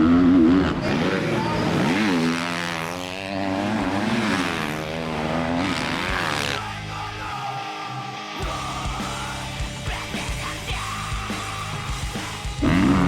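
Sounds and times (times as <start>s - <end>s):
motocross bike engines revving: 0.0s - 13.0s
heavy rock music: 0.4s - 13.0s.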